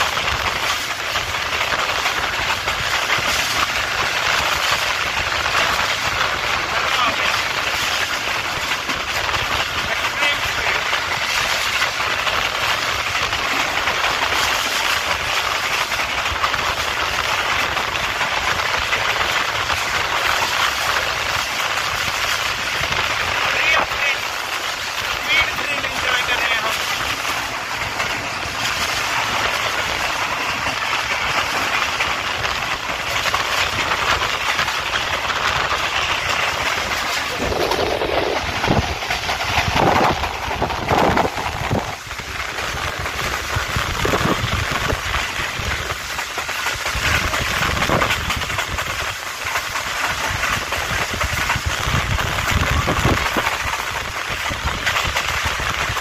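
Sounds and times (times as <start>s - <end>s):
train clattering: 0.0s - 56.0s
train wheels rushing on rails: 0.0s - 56.0s.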